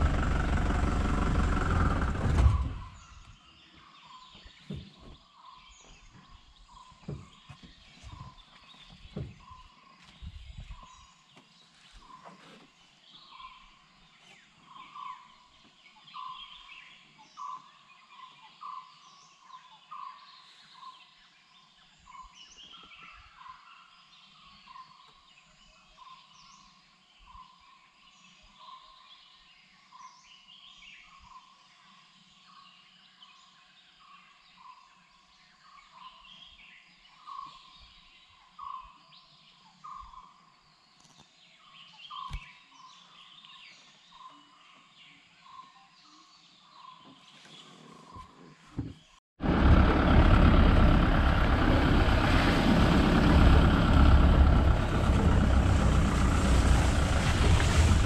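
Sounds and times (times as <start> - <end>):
birds chirping: 0.0 - 49.2, 49.8 - 58.0.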